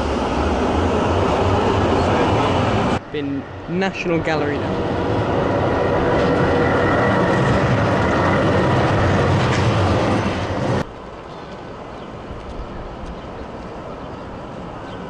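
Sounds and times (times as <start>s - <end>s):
street background: 0.0s - 15.0s
tram wheels rumbling on rails: 0.0s - 15.0s.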